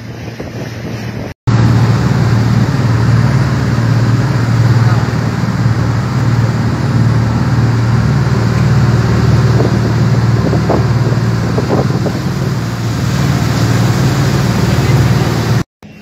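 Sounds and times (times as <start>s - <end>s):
water rushing in wake: 0.0s - 15.7s
boat engine droning: 0.0s - 16.0s.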